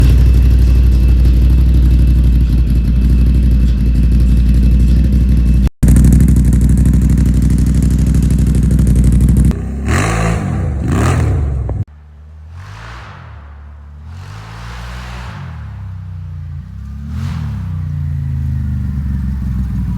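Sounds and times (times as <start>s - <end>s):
atv engine running: 0.0s - 19.9s
engine throttle blips: 0.0s - 19.9s.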